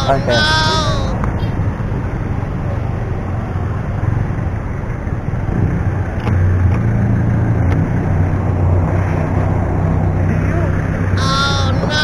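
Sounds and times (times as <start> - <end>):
scooter engine: 0.0 - 12.0.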